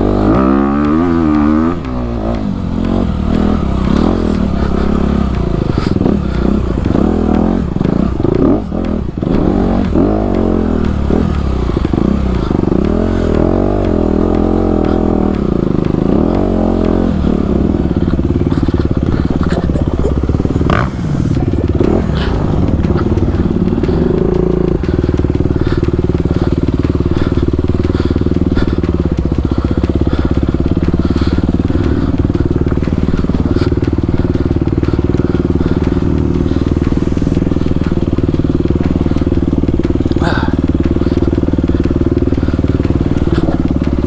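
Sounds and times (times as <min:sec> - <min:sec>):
dirt bike engine at low revs: 0:00.0 - 0:44.0.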